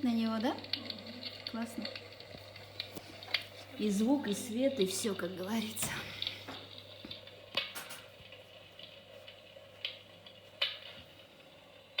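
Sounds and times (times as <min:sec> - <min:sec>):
fireplace crackling: 0:00.0 - 0:12.0.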